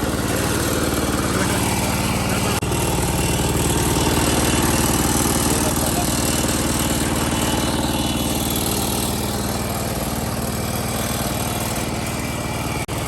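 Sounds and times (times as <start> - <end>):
farm machine engine running: 0.0 - 13.0.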